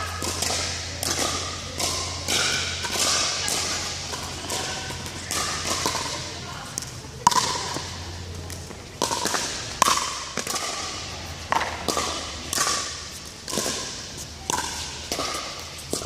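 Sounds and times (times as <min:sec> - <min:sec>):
ball bouncing on court: 0:00.0 - 0:16.0.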